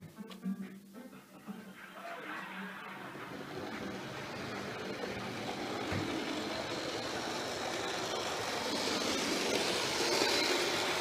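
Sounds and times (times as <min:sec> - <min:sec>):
model train rumbling on track: 0:02.0 - 0:11.0.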